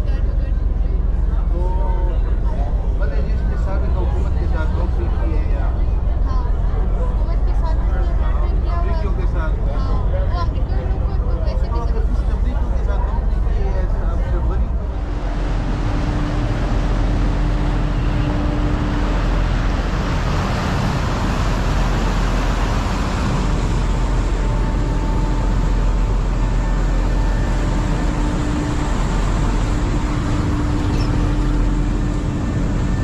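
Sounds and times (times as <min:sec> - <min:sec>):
loud engine drone: 0:00.0 - 0:33.0
faint humming tones: 0:00.1 - 0:33.0.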